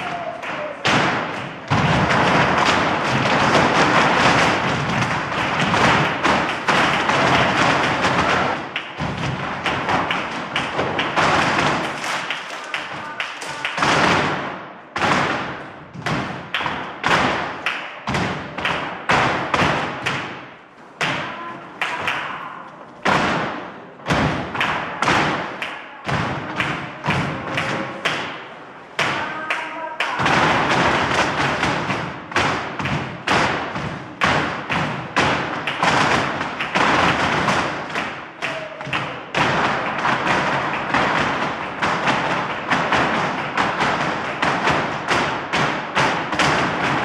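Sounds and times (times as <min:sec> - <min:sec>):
flamenco footwork on wooden floor: 0:00.0 - 0:12.3, 0:12.9 - 0:29.2, 0:30.1 - 0:47.0.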